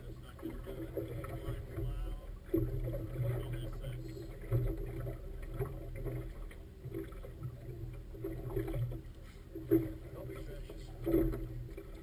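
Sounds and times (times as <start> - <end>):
boat engine running: 0.0 - 12.0
water splashing against hull: 0.0 - 12.0.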